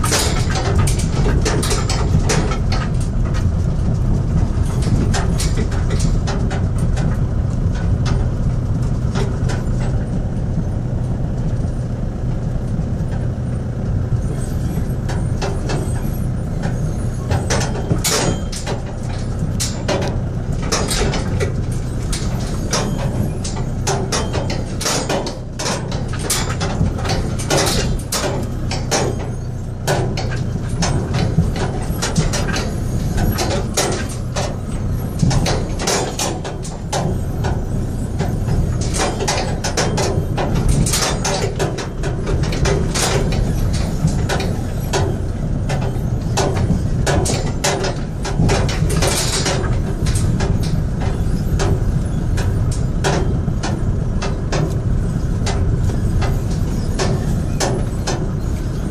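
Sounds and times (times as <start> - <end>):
knocks and rattles: 0.0 - 58.9
vehicle rumbling on rough road: 0.0 - 58.9.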